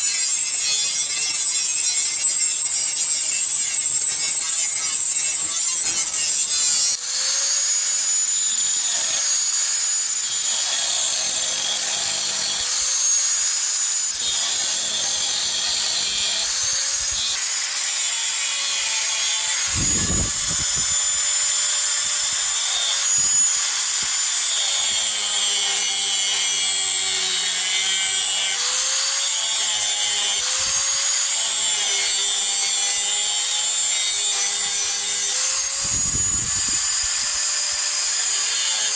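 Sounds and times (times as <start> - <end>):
electric grinder grinding metal: 0.0 - 38.9.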